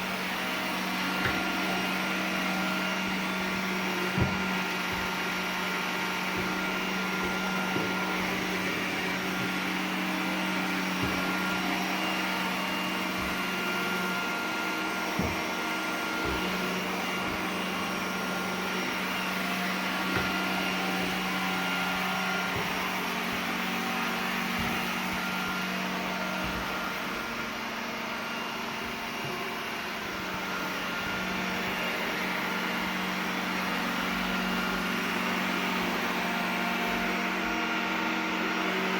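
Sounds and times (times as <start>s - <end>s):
robot vacuum motor hum: 0.0s - 38.9s.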